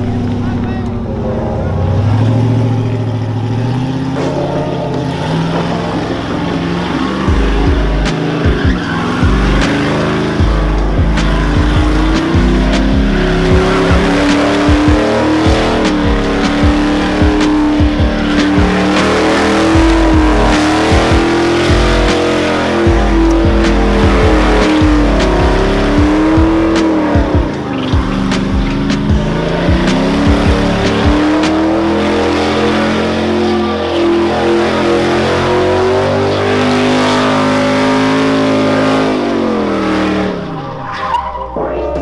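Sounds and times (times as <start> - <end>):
truck engine revving: 0.0 - 42.0
tyres squealing: 0.0 - 42.0.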